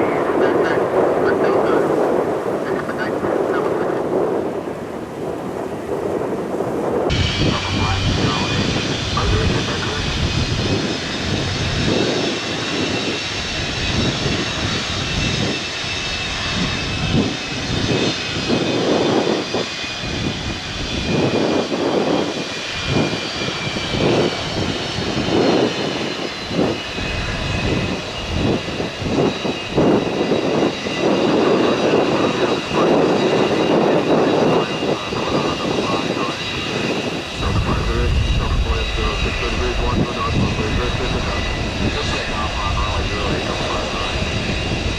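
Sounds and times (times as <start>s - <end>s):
jet engines roaring and whining: 0.0s - 44.9s.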